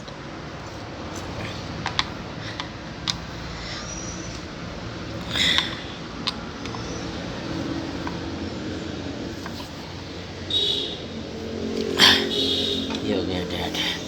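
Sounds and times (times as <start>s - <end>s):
background traffic noise: 0.0s - 14.0s.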